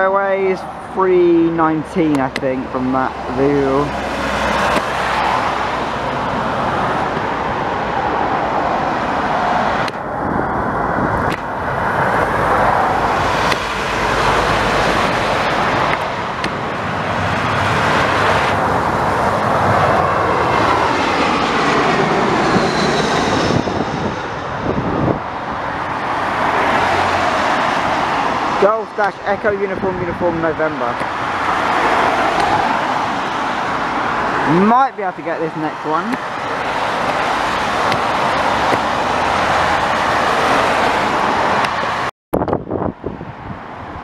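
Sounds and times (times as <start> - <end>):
jet engines passing overhead: 0.0 - 44.0
wind buffeting microphone: 3.8 - 34.6, 36.2 - 44.0.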